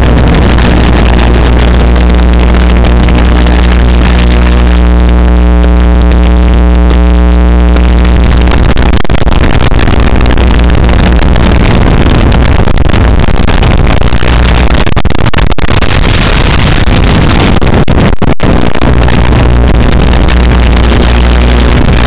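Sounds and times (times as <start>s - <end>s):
loud steady rushing noise: 0.0s - 22.0s.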